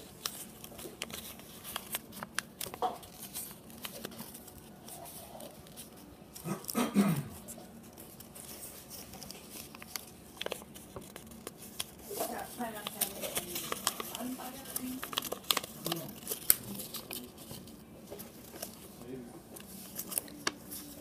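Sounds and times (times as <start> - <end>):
paper crinkling: 0.0 - 21.0.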